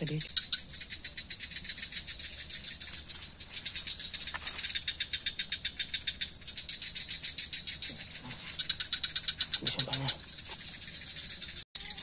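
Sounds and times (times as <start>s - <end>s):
high-pitched insect whine: 0.0s - 12.0s
insects chirping: 0.0s - 12.0s.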